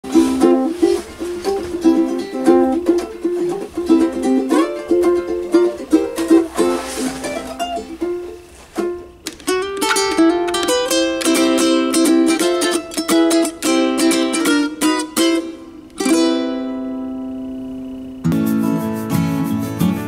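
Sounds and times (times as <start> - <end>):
plucked ukulele notes: 0.0 - 20.0
ukulele strumming chords: 0.0 - 20.0.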